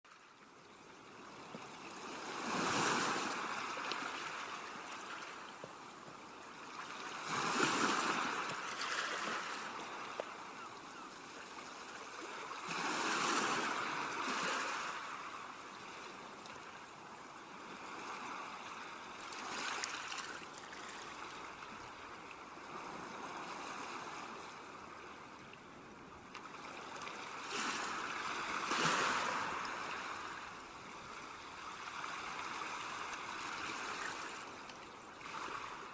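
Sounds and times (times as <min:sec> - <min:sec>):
ocean waves breaking on shore: 0:00.1 - 0:35.9.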